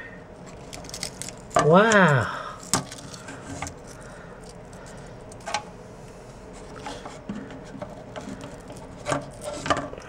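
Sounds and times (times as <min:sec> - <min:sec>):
clicks and scrapes of debris picking: 0:00.4 - 0:05.6, 0:06.6 - 0:10.0.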